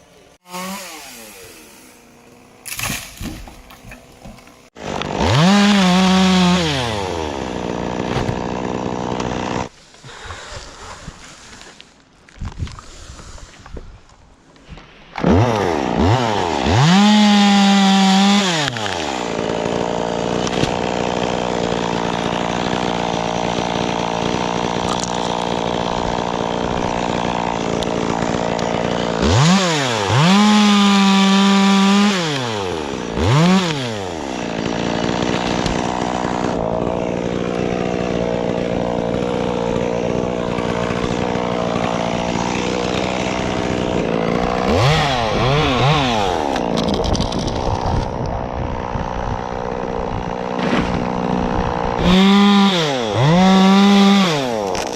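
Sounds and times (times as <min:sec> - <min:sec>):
chainsaw engine revving and idling: 0:00.4 - 0:02.6, 0:04.5 - 0:09.7, 0:15.2 - 0:54.9.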